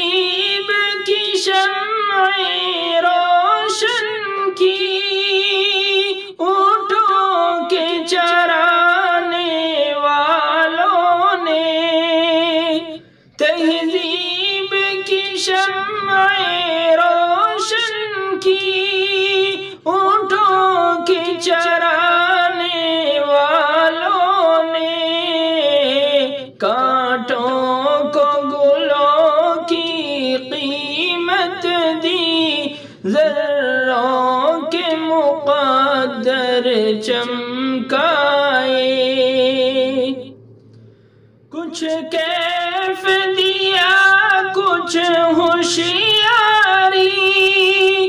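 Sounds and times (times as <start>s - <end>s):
man singing unaccompanied: 0.0s - 40.3s, 41.5s - 48.0s.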